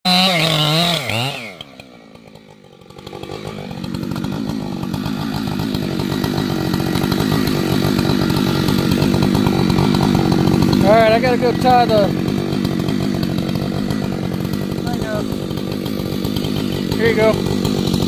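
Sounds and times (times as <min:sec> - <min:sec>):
chainsaw engine buzzing: 0:00.1 - 0:18.0.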